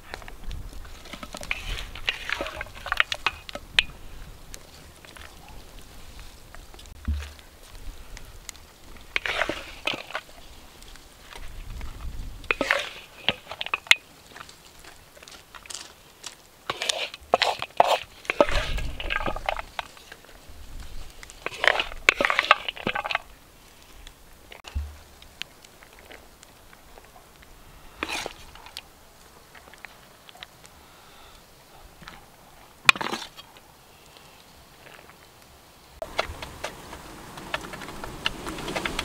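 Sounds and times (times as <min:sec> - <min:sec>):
crunchy chewing: 0:00.0 - 0:35.3.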